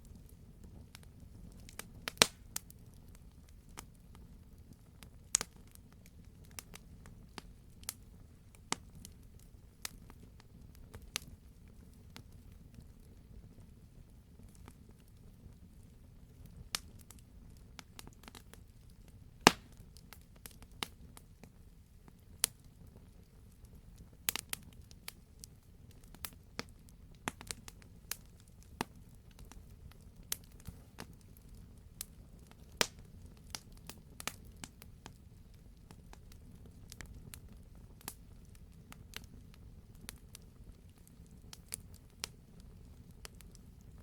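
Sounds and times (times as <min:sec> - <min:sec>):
faint low rumble of flames: 0:00.0 - 0:44.0
logs crackling and popping: 0:00.0 - 0:44.0.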